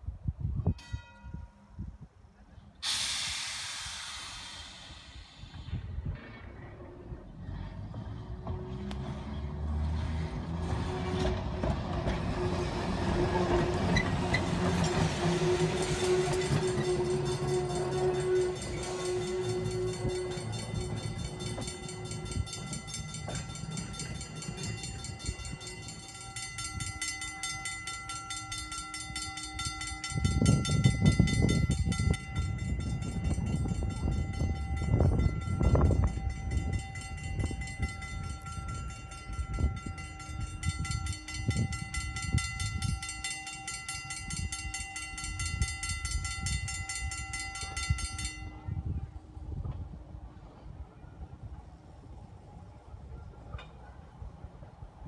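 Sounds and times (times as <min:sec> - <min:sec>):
steel wheels clattering on rails: 0:03.8 - 0:48.6.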